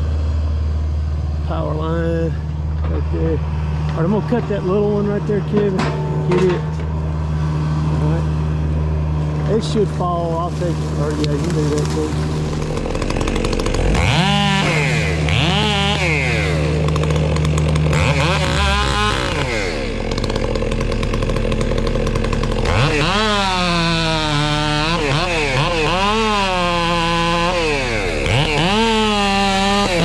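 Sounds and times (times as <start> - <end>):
chainsaw revving: 1.1 - 30.0.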